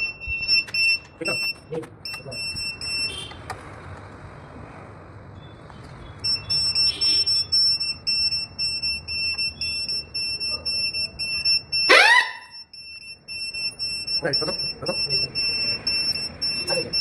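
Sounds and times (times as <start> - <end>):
fire alarm beeping: 0.0 - 3.3, 6.2 - 17.0.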